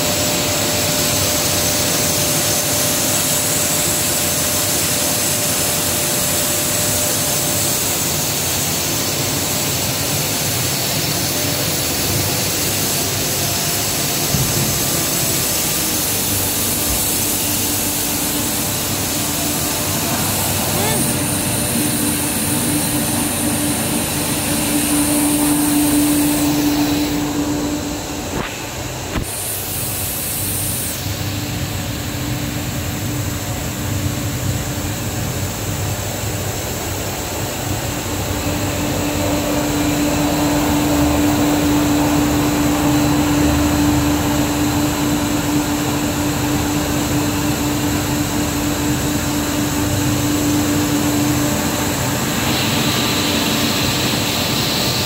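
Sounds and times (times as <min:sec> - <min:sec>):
electric motors droning: 0:00.0 - 0:29.7, 0:30.6 - 0:55.0
constant hum: 0:00.0 - 0:55.0.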